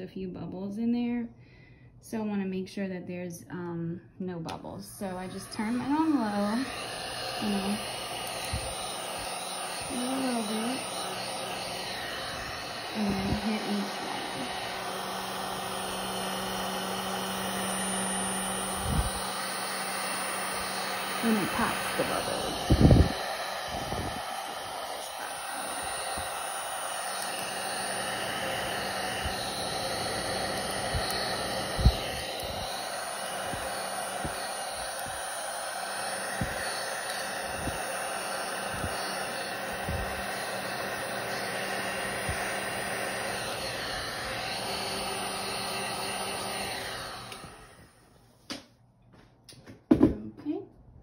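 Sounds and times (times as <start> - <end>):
heat gun blowing whir: 4.5 - 48.2.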